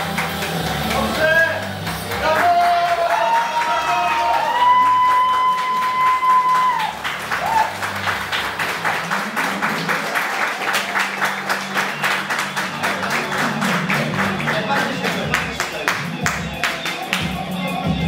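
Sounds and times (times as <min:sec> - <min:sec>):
crowd applauding: 0:00.0 - 0:17.5.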